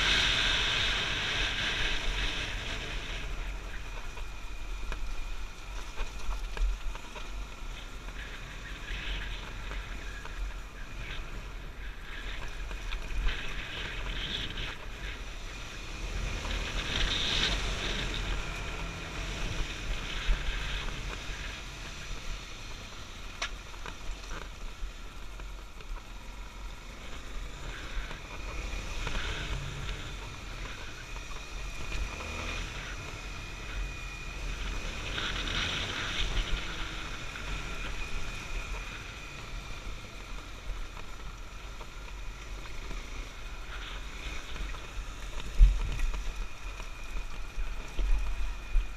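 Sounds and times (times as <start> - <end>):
dirt bike engine running: 0.0 - 48.9
wind and road noise: 0.0 - 48.9.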